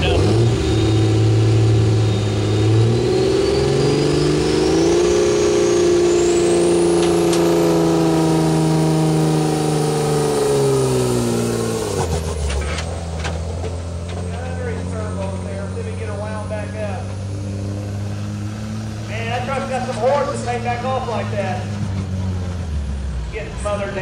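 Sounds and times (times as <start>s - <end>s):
diesel truck engine at full throttle: 0.0s - 24.0s.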